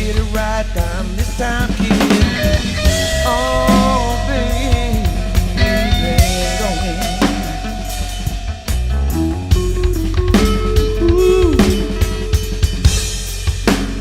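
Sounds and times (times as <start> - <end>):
bass: 0.0 - 14.0
drum kit: 0.0 - 14.0
electric lead guitar: 0.0 - 14.0.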